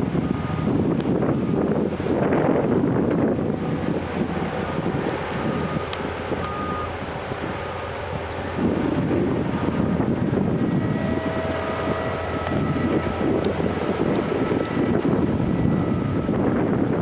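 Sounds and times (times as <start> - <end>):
heavy construction machinery running: 0.0 - 17.0
wind buffeting microphone: 0.0 - 17.0.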